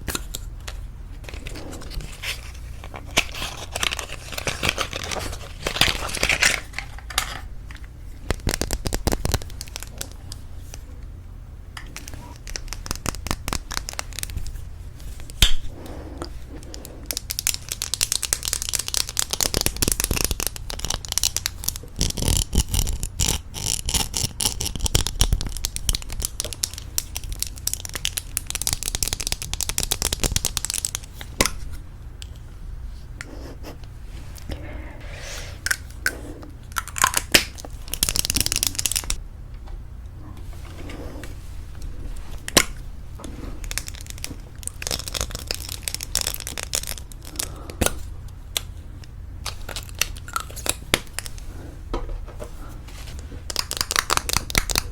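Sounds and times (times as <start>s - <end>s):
crinkling: 0.0s - 11.1s, 11.8s - 32.4s, 34.1s - 39.2s, 40.2s - 54.9s.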